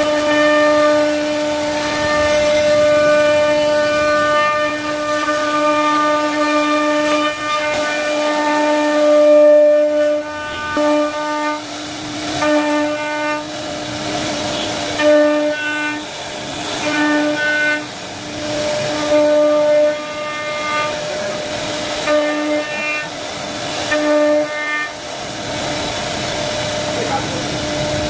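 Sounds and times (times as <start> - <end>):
hiss of wood cutting: 0.0 - 28.0
router machine whine: 0.0 - 28.0.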